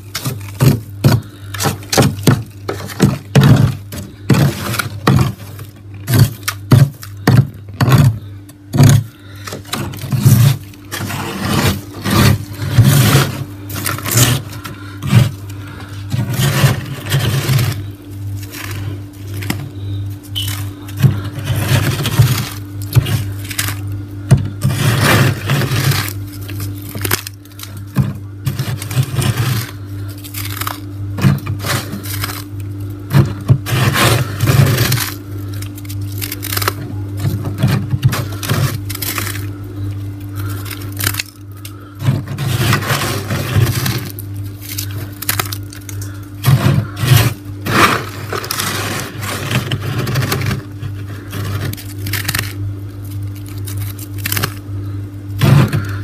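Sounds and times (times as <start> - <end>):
fingers scraping freezer frost: 0.0 - 56.0
low hum: 0.0 - 56.0.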